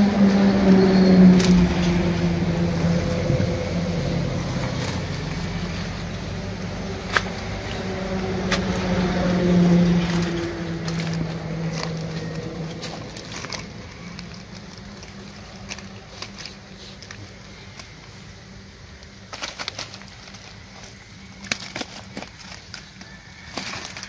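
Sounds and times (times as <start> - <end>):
light ticks and rustles: 2.8 - 24.0.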